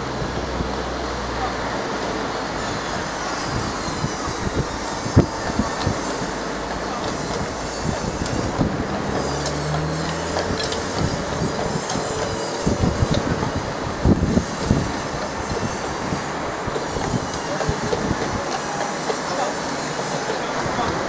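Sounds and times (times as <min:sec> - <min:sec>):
car engine humming: 0:00.0 - 0:21.0
horse hooves clopping on wet road: 0:00.0 - 0:21.0
tram wheels clacking on rails: 0:00.0 - 0:21.0.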